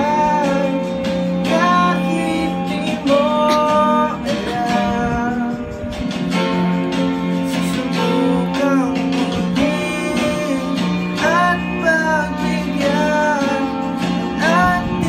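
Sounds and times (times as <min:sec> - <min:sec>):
person singing slow song: 0:00.0 - 0:15.0
strummed acoustic guitar: 0:00.0 - 0:15.0.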